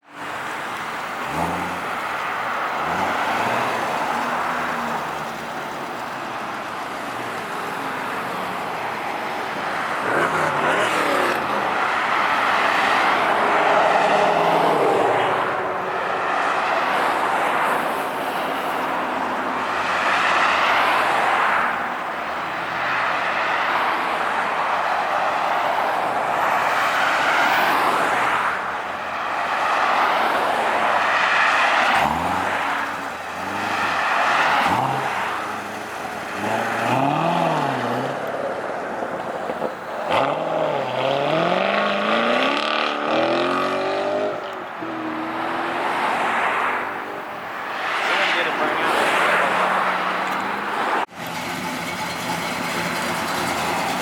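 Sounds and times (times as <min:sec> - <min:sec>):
car engines driving past revving: 0:00.0 - 0:54.0
outdoor background noise: 0:00.0 - 0:54.0.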